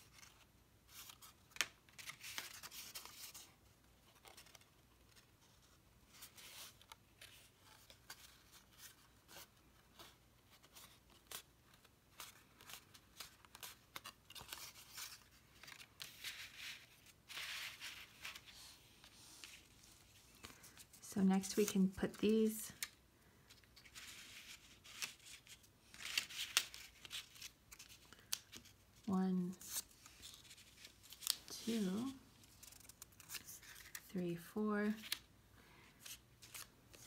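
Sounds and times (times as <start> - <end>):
card stock rustling: 0.0 - 34.1.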